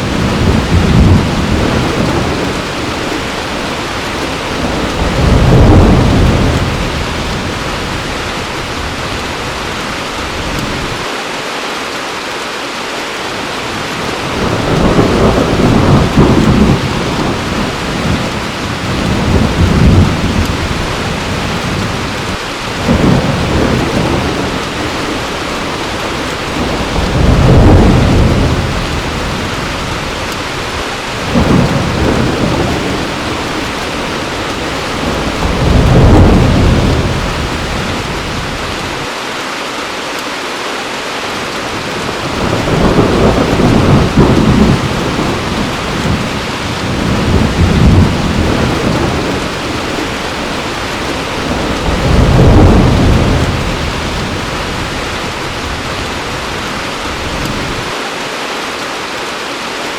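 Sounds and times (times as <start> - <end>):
thunder rolling: 0.0 - 11.0, 14.0 - 39.1, 41.7 - 58.0
heavy rain falling: 0.0 - 59.9.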